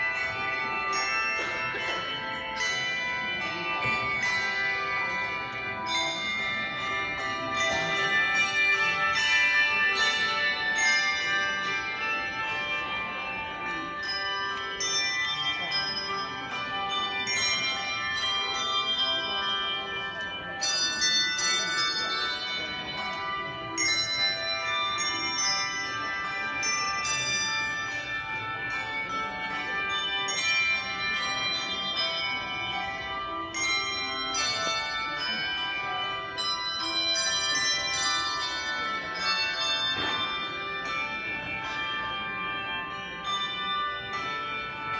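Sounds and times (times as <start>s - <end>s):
bells ringing in a run: 0.0s - 44.9s.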